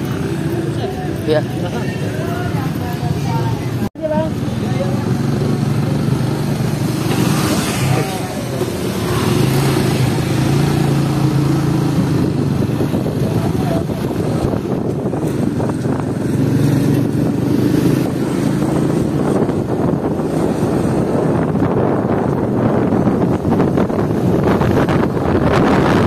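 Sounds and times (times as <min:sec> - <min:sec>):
motorcycle engine hum: 0:00.0 - 0:26.0
road noise rush: 0:00.0 - 0:26.0.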